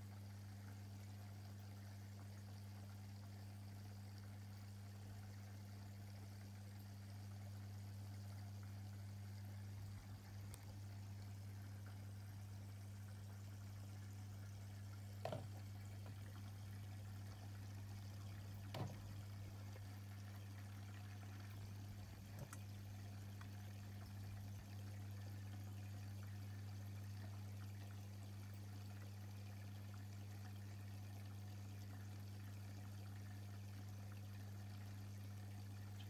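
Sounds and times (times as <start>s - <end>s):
aquarium pump humming: 0.0s - 36.0s
water trickling: 0.0s - 36.0s.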